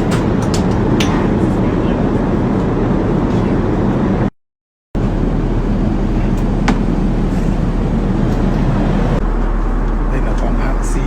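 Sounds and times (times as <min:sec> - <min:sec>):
airliner cabin noise: 0:00.0 - 0:04.3, 0:05.0 - 0:11.0.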